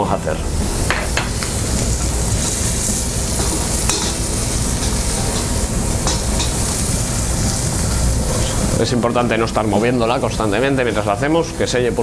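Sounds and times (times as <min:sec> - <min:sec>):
scallops sizzling in pan: 0:00.4 - 0:12.0.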